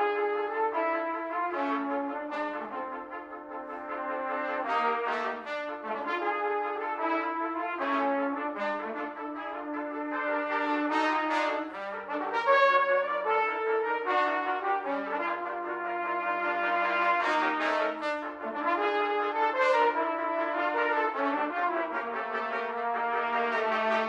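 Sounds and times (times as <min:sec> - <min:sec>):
brass ensemble playing in harmony: 0:00.0 - 0:24.0.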